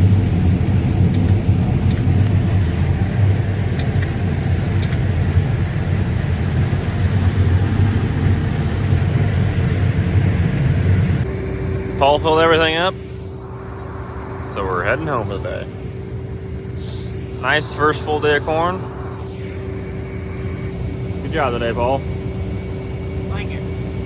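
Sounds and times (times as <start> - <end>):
combine harvester hum: 0.0 - 24.0.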